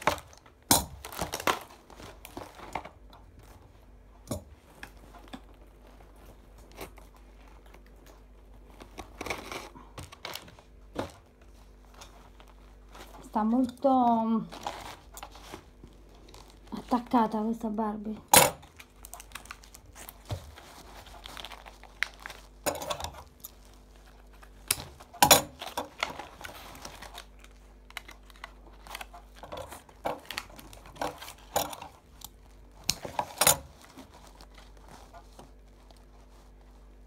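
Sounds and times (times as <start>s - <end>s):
packaging crinkling and rustling: 0.0s - 37.0s.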